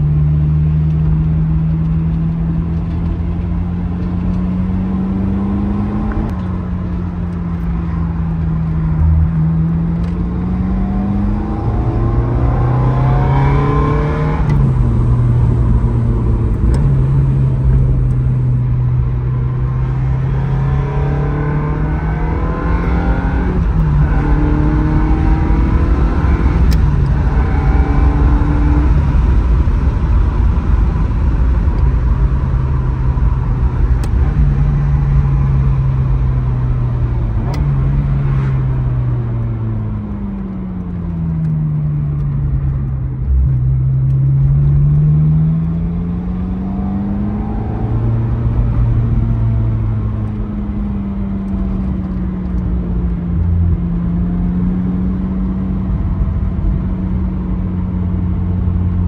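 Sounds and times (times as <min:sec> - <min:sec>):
car engine revving and cruising: 0:00.0 - 0:59.0
road and wind noise: 0:00.0 - 0:59.0.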